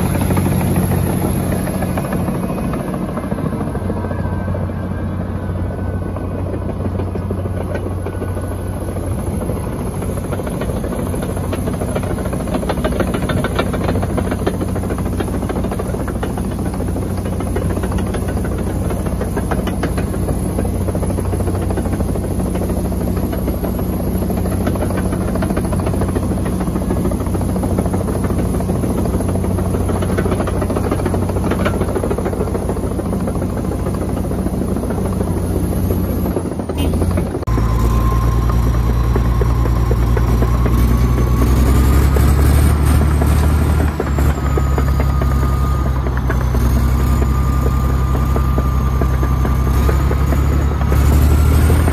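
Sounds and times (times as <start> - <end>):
bulldozer diesel engine running: 0.0 - 51.9
track and blade clanks: 6.4 - 51.9.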